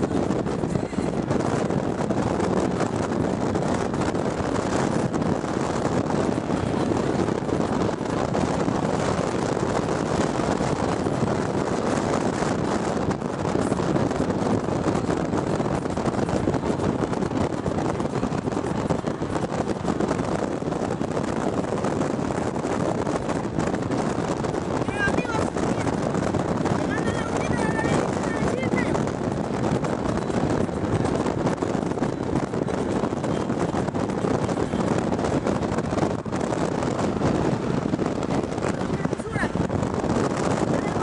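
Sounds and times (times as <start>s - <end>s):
wind and road noise in car: 0.0s - 41.0s.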